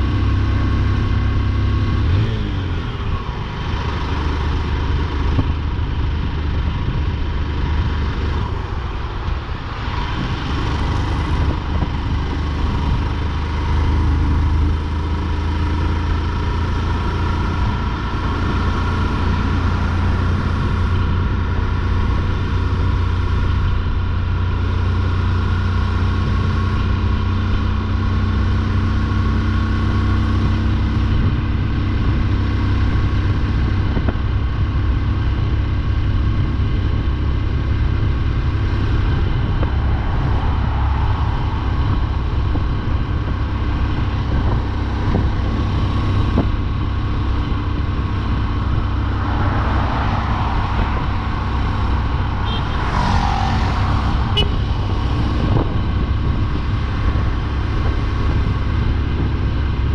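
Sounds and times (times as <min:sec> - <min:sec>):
motorcycle engine running: 0:00.0 - 0:53.1, 0:54.0 - 0:59.9
wind and road noise: 0:00.0 - 0:59.9.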